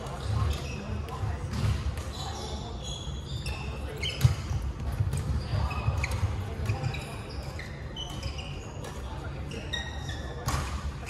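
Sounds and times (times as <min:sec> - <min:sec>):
sneakers squeaking on wooden court: 0:00.0 - 0:11.0.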